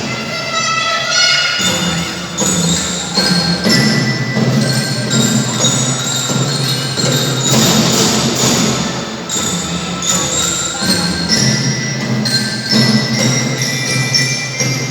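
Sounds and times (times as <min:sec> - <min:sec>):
glockenspiel notes: 0:00.0 - 0:14.9
steady drum beat: 0:01.6 - 0:14.9.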